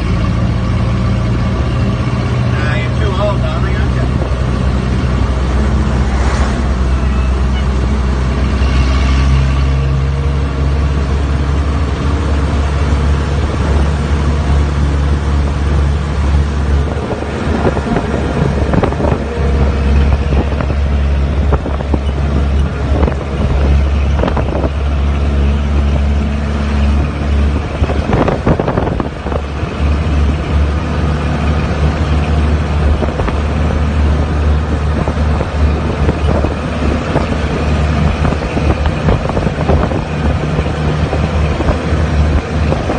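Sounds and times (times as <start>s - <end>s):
car engine driving: 0.0s - 42.9s
wind buffeting microphone: 3.4s - 42.9s.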